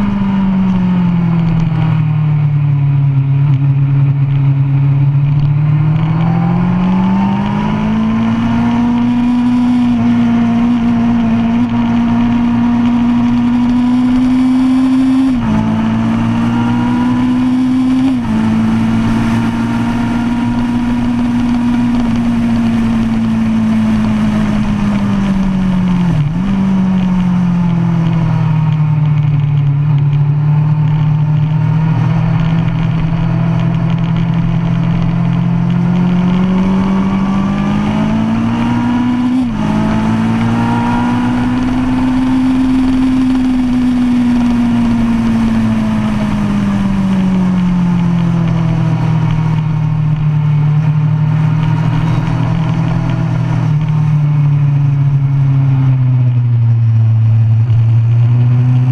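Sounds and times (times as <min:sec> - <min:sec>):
motorcycle engine running hard: 0:00.0 - 0:58.9.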